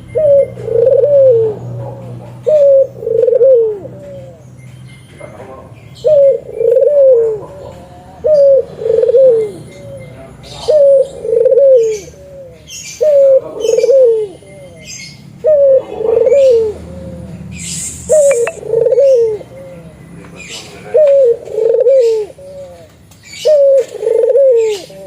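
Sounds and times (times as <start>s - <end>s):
dove cooing: 0.0s - 4.4s, 6.0s - 17.4s, 18.1s - 20.0s, 20.6s - 25.0s
small birds chirping: 0.0s - 25.0s.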